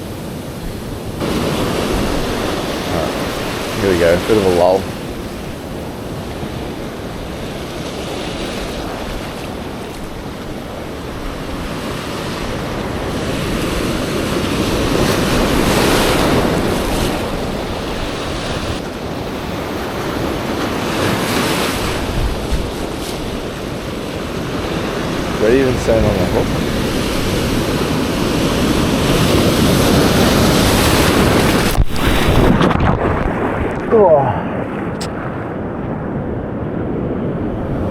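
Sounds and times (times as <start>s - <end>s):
surf washing against rocks: 0.0s - 37.9s
wind on microphone: 0.0s - 37.9s.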